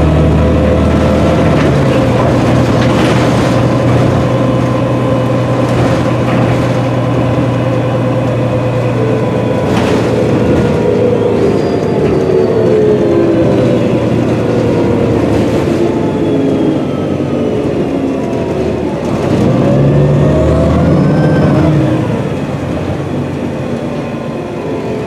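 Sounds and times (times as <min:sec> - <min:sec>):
bus engine and transmission whine: 0:00.0 - 0:25.0.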